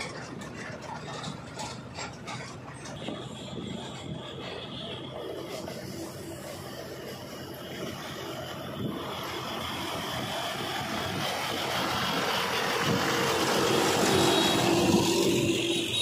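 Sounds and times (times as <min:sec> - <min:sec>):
tractor diesel engine passing: 0:00.0 - 0:16.0.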